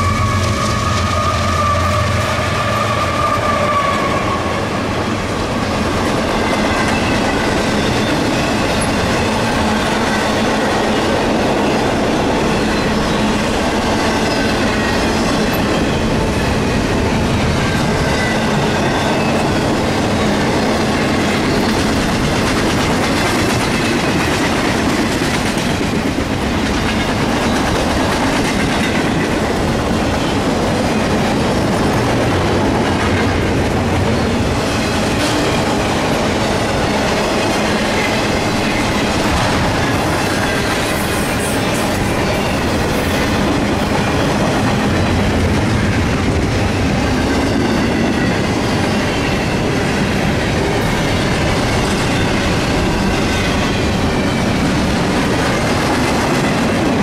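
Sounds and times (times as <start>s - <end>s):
diesel locomotives passing: 0.0s - 57.0s
train rumble and wheel clatter: 0.0s - 57.0s.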